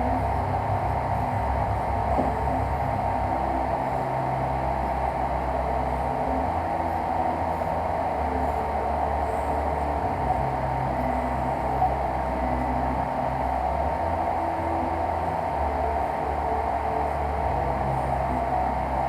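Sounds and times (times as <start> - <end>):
cooling fan whirring: 0.0 - 19.0.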